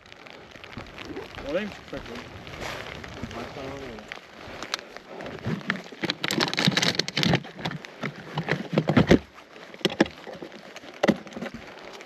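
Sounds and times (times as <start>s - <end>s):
raindrops tapping: 0.0s - 12.0s.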